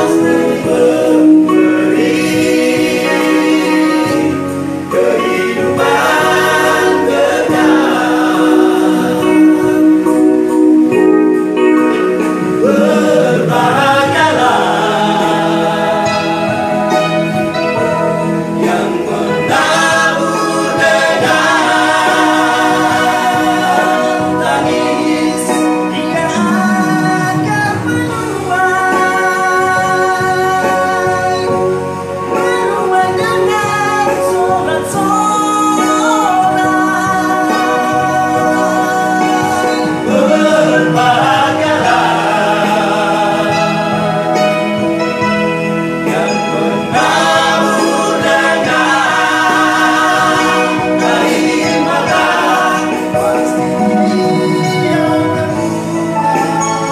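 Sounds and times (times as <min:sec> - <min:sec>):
men's vocal group singing: 0:00.0 - 0:56.9.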